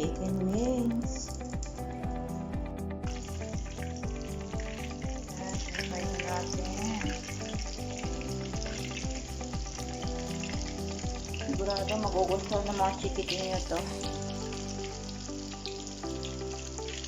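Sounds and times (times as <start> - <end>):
chicken wings sizzling in oil: 0.0 - 17.0.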